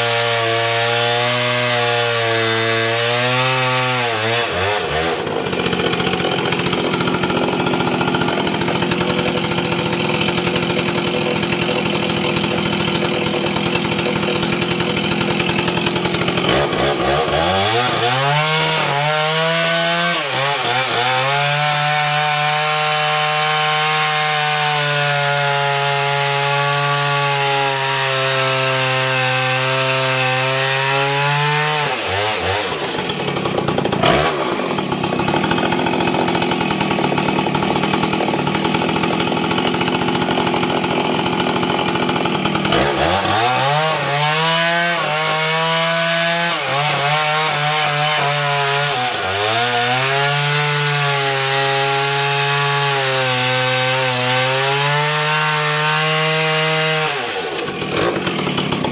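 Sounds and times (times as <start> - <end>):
chainsaw cutting log: 0.0 - 58.9.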